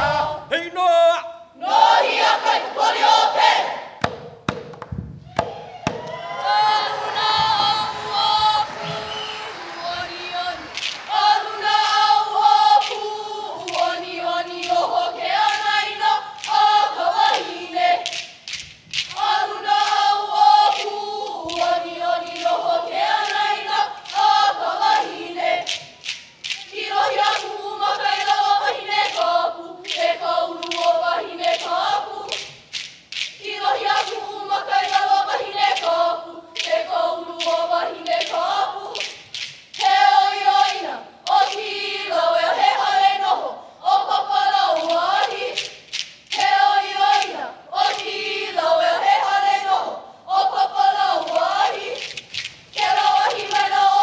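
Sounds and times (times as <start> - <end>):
group singing in unison: 0.0 - 0.6, 1.5 - 4.2, 5.4 - 54.0.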